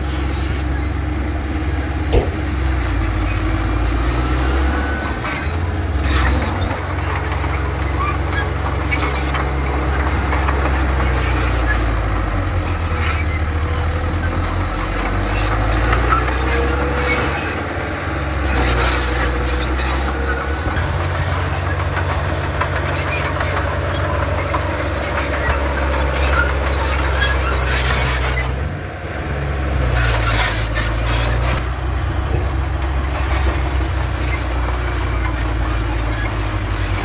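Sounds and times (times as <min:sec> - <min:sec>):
bulldozer diesel engine running: 0:00.0 - 0:37.0
machinery knocks and squeals: 0:00.0 - 0:37.0.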